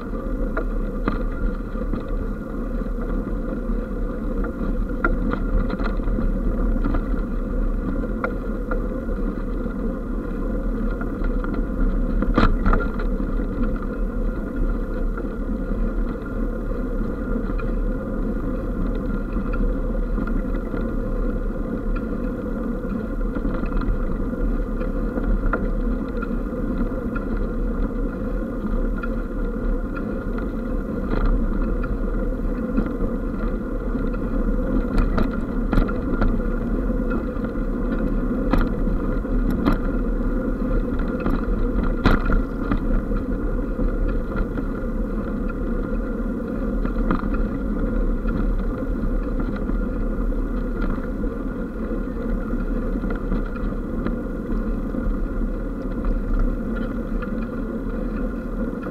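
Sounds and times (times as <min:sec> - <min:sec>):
bike ticking and rattling: 0:00.0 - 0:58.9
bike tyres rumbling on gravel: 0:00.0 - 0:58.9.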